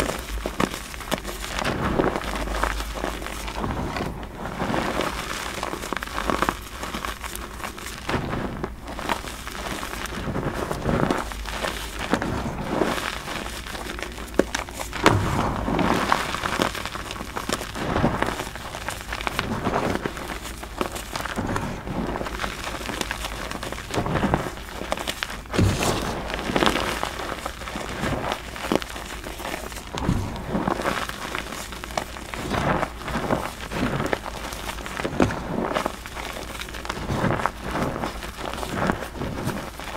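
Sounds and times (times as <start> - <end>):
hands crunching chalk: 0.0 - 39.9.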